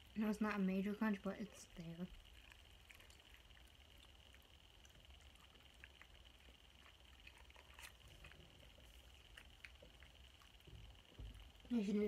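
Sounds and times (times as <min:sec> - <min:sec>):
faint high whine: 0:00.0 - 0:12.0
low hum: 0:00.0 - 0:12.0
faint chewing: 0:01.4 - 0:11.8.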